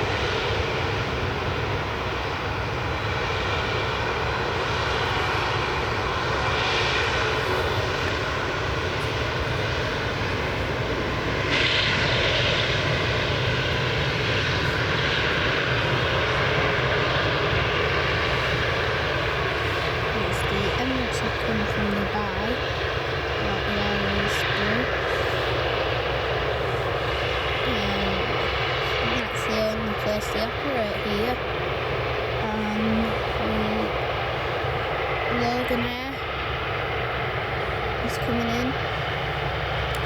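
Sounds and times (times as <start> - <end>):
airliner engines roaring: 0.0 - 40.0.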